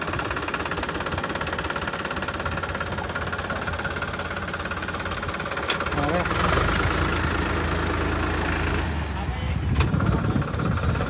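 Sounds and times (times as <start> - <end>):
diesel engine knocking steadily: 0.0 - 11.0.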